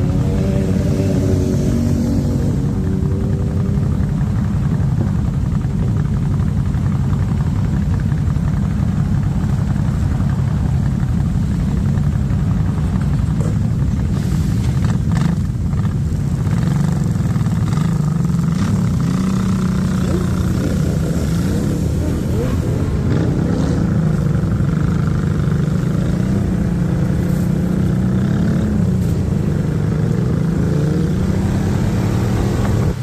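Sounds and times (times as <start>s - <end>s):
motorcycle engines rumbling: 0.0s - 33.0s.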